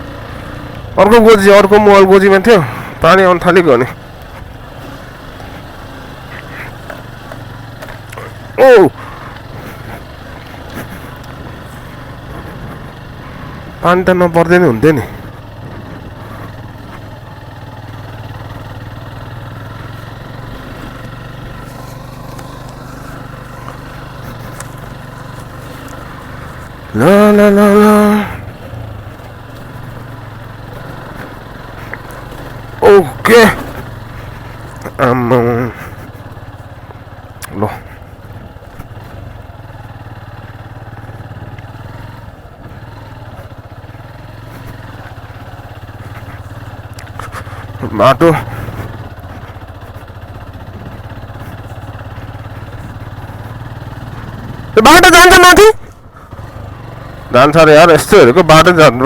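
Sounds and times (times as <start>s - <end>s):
motorcycle engine running low revs: 0.0s - 59.0s.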